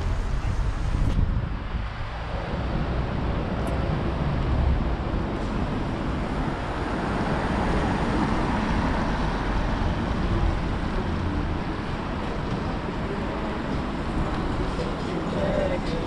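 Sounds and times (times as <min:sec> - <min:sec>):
city traffic passing cars: 0:00.0 - 0:16.0.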